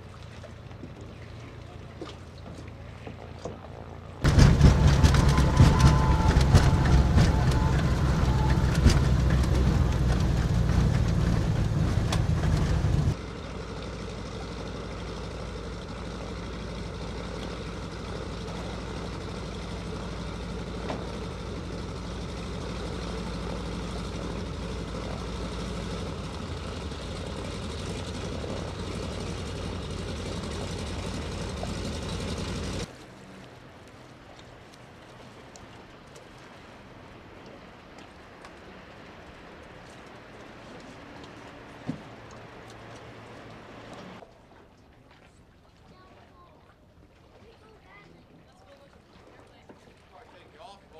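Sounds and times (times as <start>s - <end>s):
seaplane engine droning: 0.0s - 50.9s.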